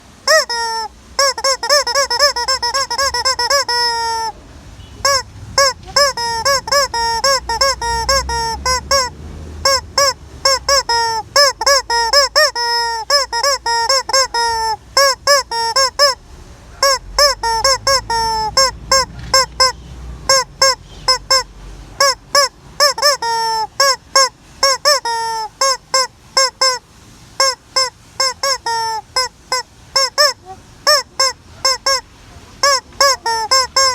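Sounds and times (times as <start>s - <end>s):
squeaky toy squawking: 0.0s - 33.9s.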